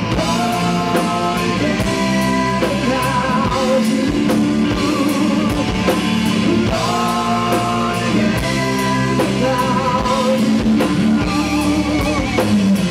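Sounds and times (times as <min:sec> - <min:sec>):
bass guitar: 0:00.0 - 0:12.9
drum kit with cymbals: 0:00.0 - 0:12.9
electric guitar: 0:00.0 - 0:12.9
person singing with vibrato: 0:00.0 - 0:12.9.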